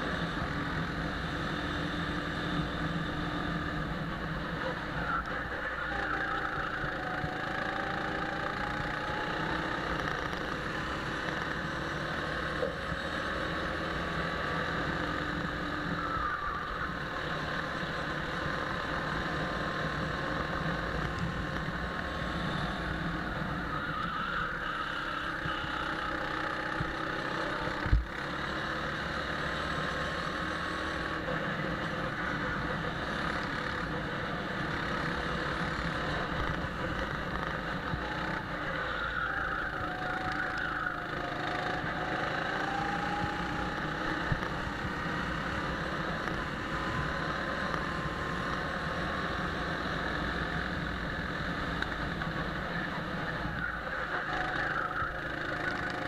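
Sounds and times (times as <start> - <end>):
go-kart engine revving: 0.0 - 56.0
noisy rush: 0.0 - 56.0.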